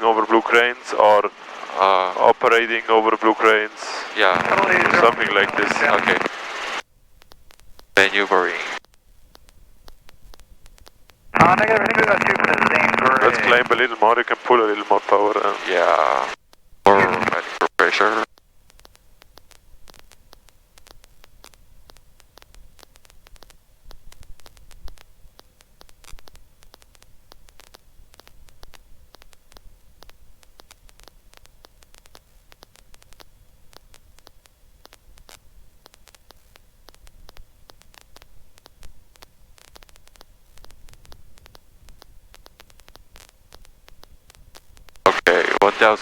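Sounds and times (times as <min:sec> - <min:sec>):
crackling clicks: 0:00.0 - 0:46.0
faint radio hiss: 0:00.0 - 0:46.0.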